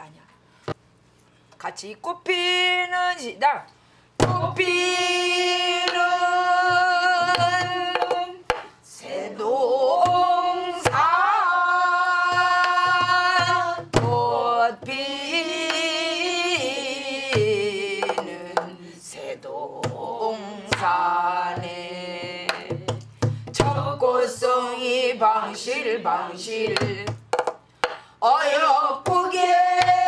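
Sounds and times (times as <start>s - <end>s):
woman singing folk song: 4.2s - 27.2s, 28.2s - 30.0s.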